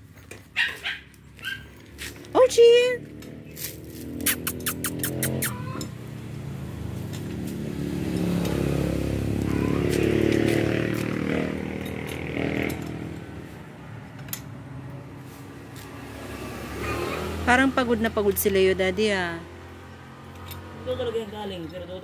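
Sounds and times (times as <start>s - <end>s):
vehicle engine passing by: 1.1s - 22.0s.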